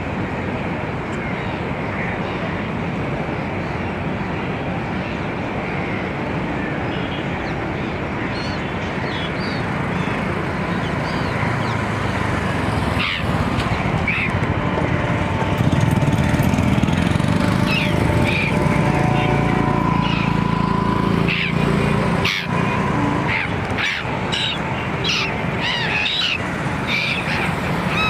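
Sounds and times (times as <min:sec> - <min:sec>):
engine drone: 0:00.0 - 0:28.0
seagulls calling: 0:04.8 - 0:28.0.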